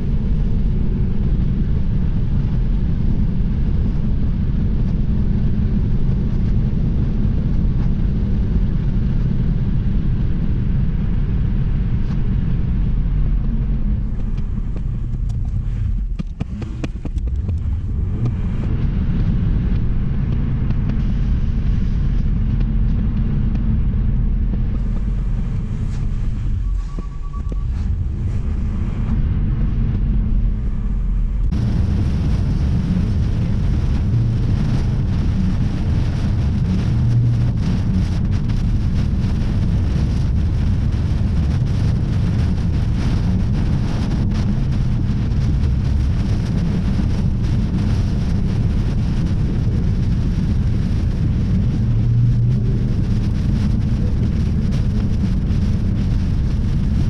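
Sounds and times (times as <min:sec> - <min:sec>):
storm wind buffeting microphone: 0:00.0 - 0:57.0.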